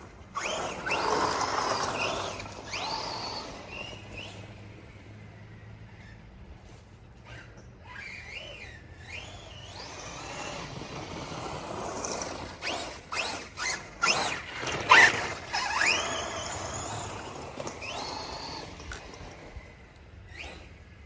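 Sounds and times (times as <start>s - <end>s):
electric motor whining: 0.0s - 6.2s, 7.2s - 21.0s.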